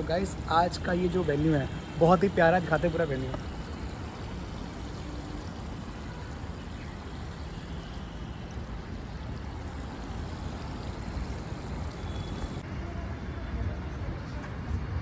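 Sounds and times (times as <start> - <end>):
water spilling over pool edge: 0.0 - 12.6.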